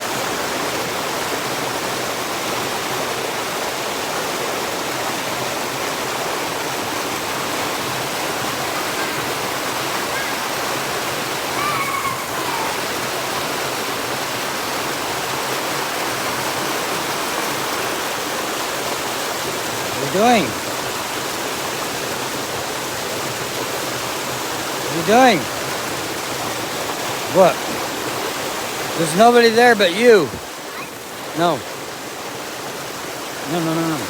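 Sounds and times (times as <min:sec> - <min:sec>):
waterfall pouring: 0:00.0 - 0:34.0.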